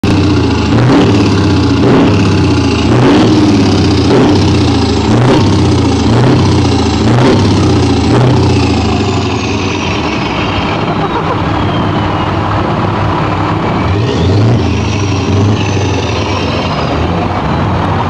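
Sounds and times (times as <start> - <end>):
diesel truck engine revving: 0.0 - 18.0.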